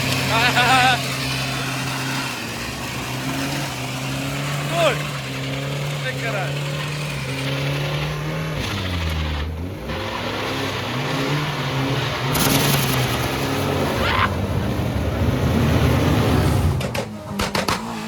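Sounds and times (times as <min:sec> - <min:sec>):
car engine revving: 0:00.0 - 0:18.0
harsh rushing noise: 0:00.0 - 0:18.0.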